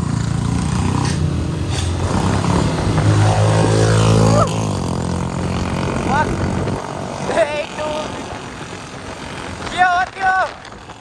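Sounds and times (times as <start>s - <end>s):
loud motorcycle engine revving: 0.0s - 9.9s.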